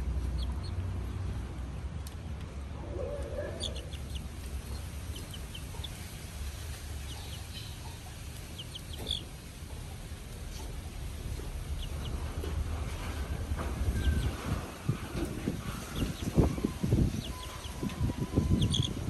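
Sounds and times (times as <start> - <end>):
low steady rumble: 0.0 - 19.0
chick peeping: 0.2 - 0.8, 2.8 - 12.7, 13.6 - 19.0.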